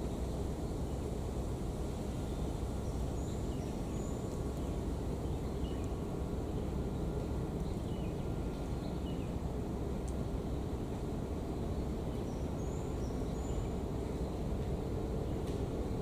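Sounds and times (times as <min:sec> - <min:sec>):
low rumble of wind: 0:00.0 - 0:16.0.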